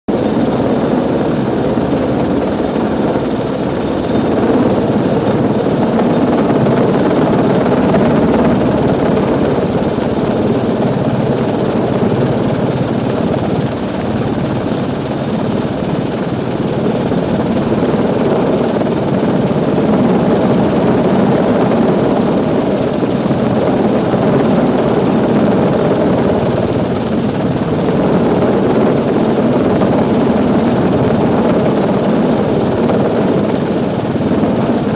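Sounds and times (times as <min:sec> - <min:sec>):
helicopter rotor and turbine: 0:00.1 - 0:34.9.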